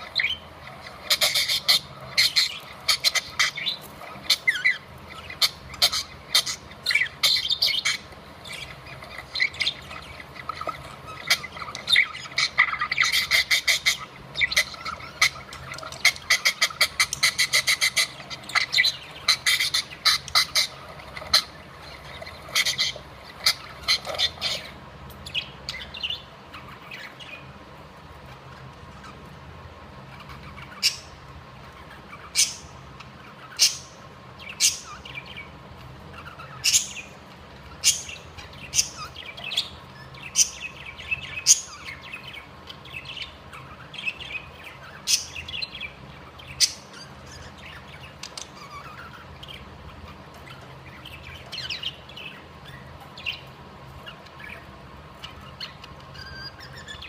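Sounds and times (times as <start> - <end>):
budgerigars chirping: 0.0 - 57.0
soft twittering chatter: 0.0 - 57.0.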